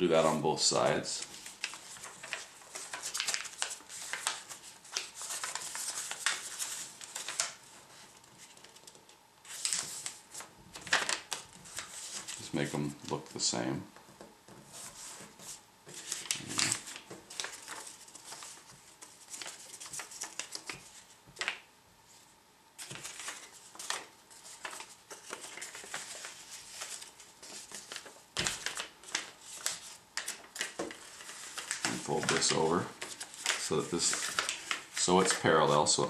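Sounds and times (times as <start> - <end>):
paper rustling and crinkling: 0.2 - 22.2, 22.8 - 36.0.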